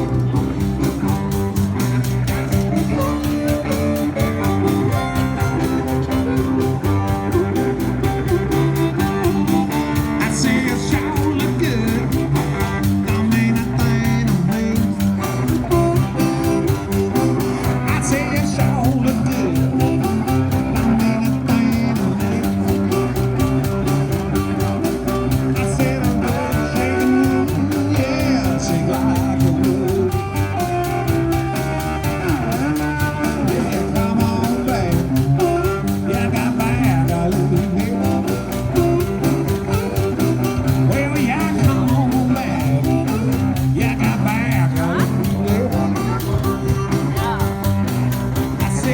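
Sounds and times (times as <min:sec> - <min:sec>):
fast percussion beat: 0:00.0 - 0:48.9
guitar playing: 0:00.0 - 0:48.9.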